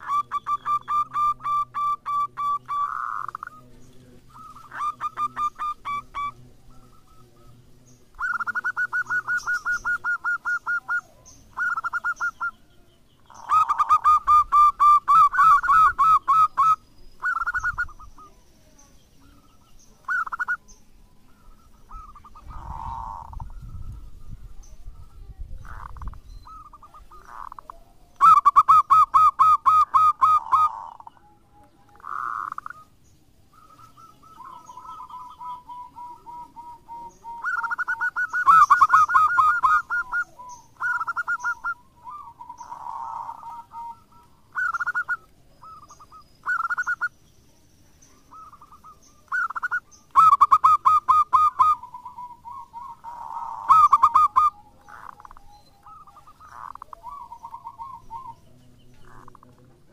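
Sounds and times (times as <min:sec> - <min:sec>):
dove cooing: 0:00.0 - 0:47.2, 0:48.1 - 0:59.9.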